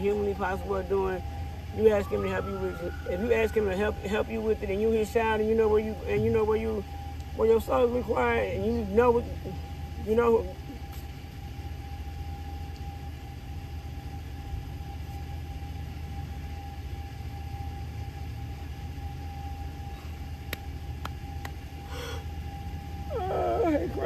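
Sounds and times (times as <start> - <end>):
low engine hum: 0.0 - 24.0
steady whine: 0.0 - 24.0.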